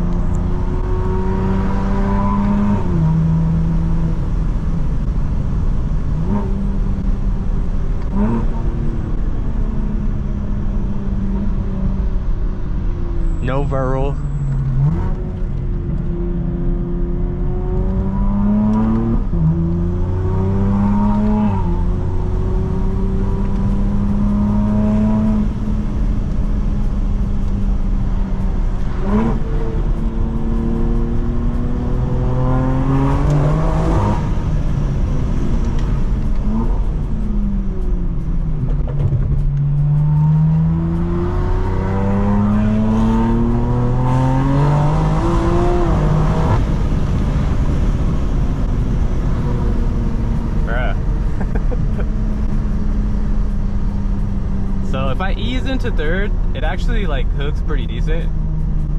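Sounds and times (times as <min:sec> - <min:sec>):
car engine accelerating through gears: 0:00.0 - 0:13.5, 0:14.2 - 0:58.9.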